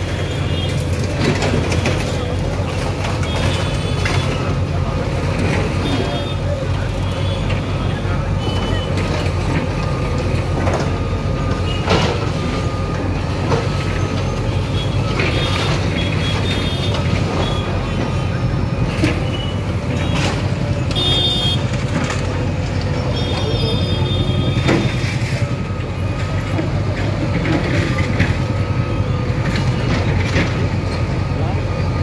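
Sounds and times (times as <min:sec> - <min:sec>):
diesel engine under load: 0:00.0 - 0:32.0.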